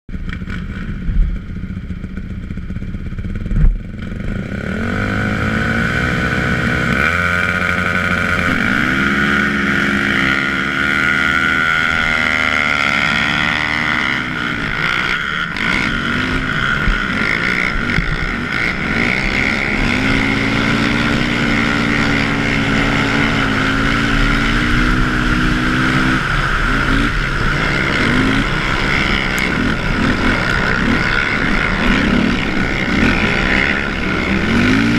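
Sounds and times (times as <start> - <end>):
quad engine accelerating: 0.1 - 34.9.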